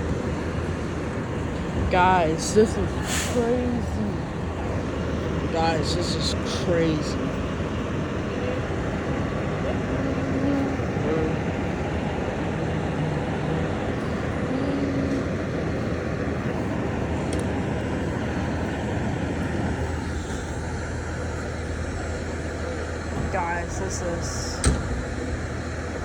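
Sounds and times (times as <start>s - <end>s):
constant low hum: 0.0s - 26.0s
vehicle engines running: 0.0s - 26.0s.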